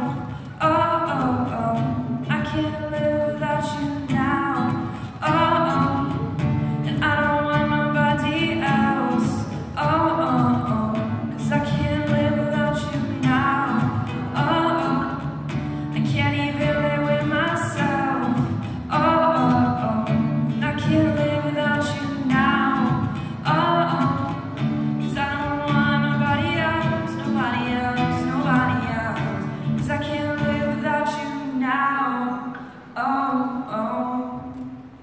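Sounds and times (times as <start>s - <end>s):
acoustic guitar: 0.0s - 35.0s
woman singing: 0.0s - 35.0s.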